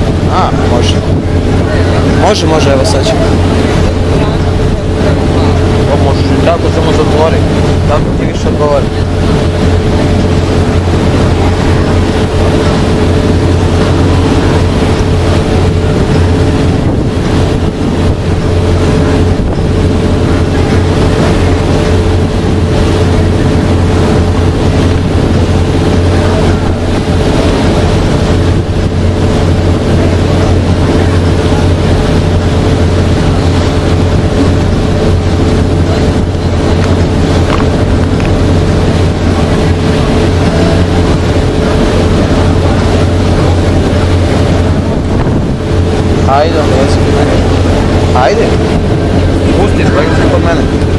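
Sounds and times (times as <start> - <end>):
boat engine humming: 0.0 - 50.9
wind buffeting microphone: 0.0 - 50.9.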